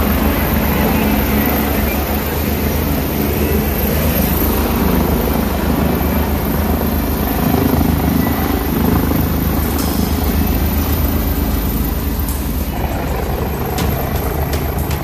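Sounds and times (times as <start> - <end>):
helicopter hovering overhead: 0.0 - 15.0.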